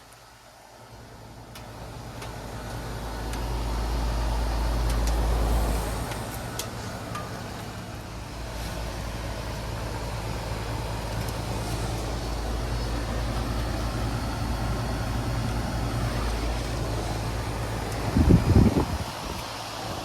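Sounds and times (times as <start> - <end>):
heat pump humming: 0.0 - 20.0.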